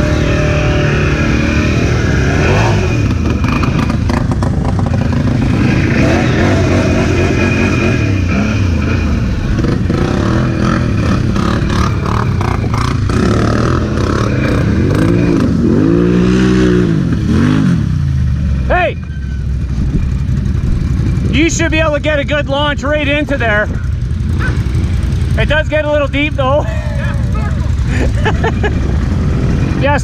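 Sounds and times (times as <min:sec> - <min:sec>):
atv engines revving: 0:00.0 - 0:30.0.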